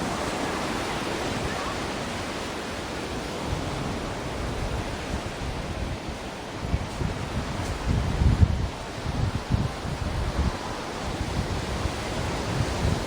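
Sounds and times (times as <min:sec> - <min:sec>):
surf hissing on shore: 0:00.0 - 0:13.0.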